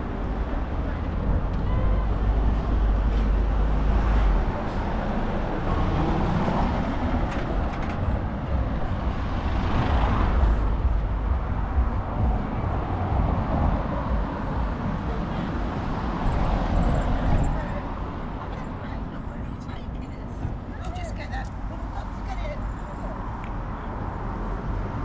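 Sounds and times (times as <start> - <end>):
low rumble of vehicles: 0.0 - 25.0.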